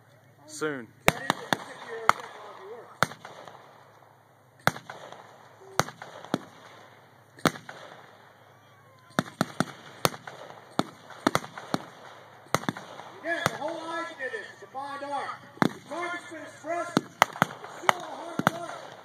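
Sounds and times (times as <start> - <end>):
distant gunshots: 1.0 - 19.0.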